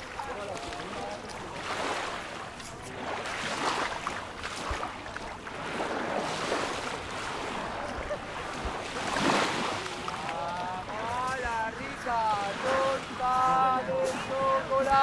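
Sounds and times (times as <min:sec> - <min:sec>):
waves lapping on gravel shore: 0:00.0 - 0:15.0.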